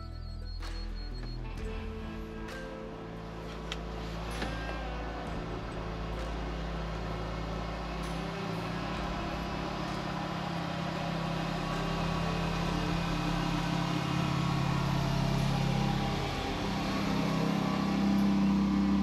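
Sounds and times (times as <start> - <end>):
all-terrain vehicle engine running: 0.0 - 19.0.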